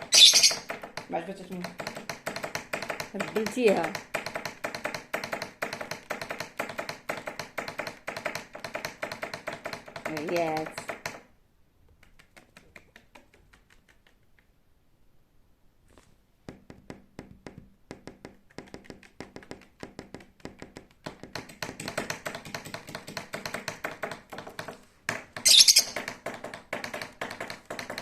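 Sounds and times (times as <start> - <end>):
fast light tapping: 0.0 - 11.3, 16.6 - 28.0.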